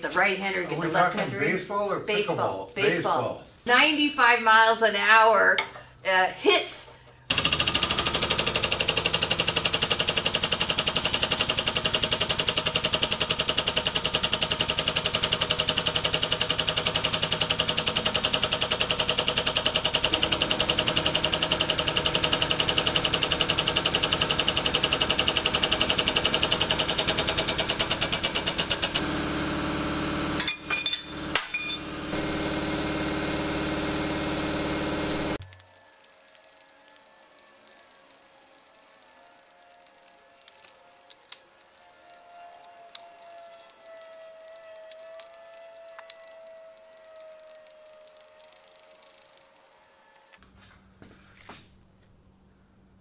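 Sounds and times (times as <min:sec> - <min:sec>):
steady machine hum: 0:07.2 - 0:50.1.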